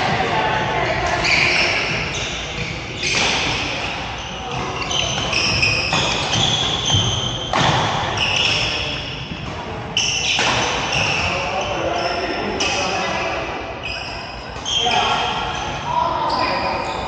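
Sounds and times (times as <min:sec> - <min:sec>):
shoes squeaking on floor: 0:00.0 - 0:17.0.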